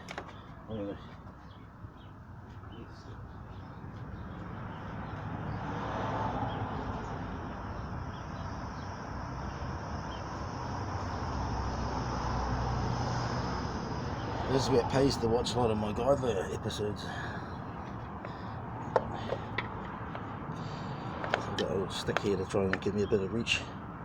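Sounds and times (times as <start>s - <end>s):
passing vehicle rumble: 3.7s - 24.0s.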